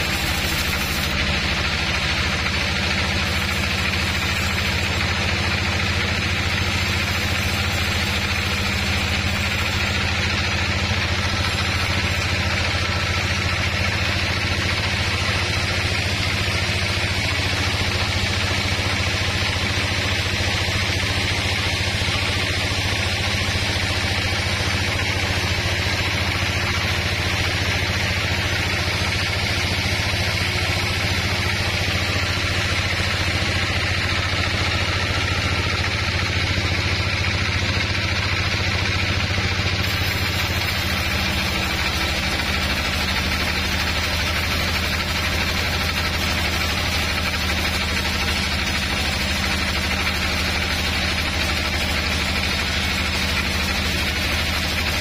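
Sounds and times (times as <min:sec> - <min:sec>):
band sawmill humming and whirring: 0:00.0 - 0:55.0.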